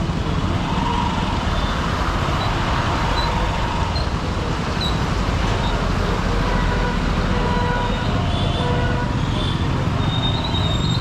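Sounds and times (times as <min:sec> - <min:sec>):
city traffic hum: 0:00.0 - 0:11.0
road and wind noise: 0:00.0 - 0:11.0.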